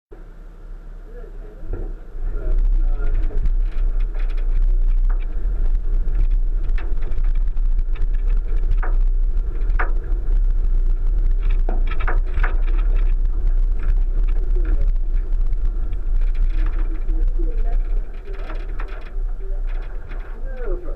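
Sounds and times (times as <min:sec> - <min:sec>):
car rumbling over dirt track: 0:00.1 - 0:20.9
knocks and rattles: 0:01.6 - 0:20.9.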